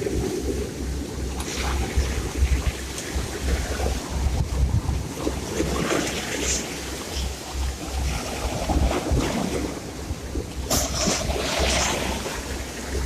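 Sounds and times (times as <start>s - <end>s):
sea surf washing: 0.0s - 13.0s
wind buffeting microphone: 0.0s - 13.0s.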